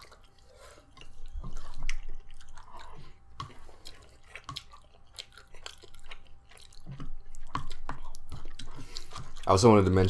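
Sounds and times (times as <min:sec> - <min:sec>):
chewing food: 0:00.0 - 0:10.0.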